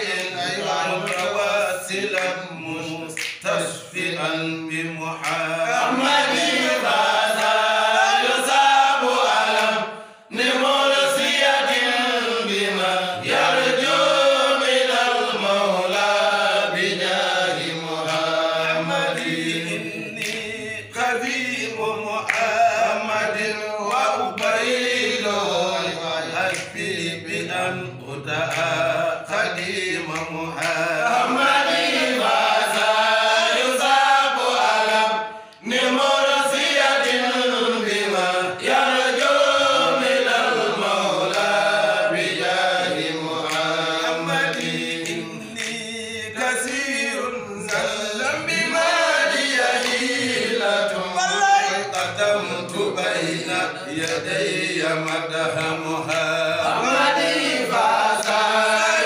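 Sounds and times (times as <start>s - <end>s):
men chanting together: 0.0s - 59.0s.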